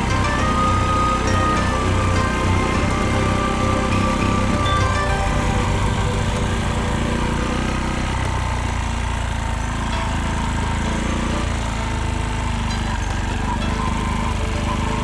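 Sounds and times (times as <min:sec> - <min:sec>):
small engine rattling clatter: 0:00.0 - 0:15.0.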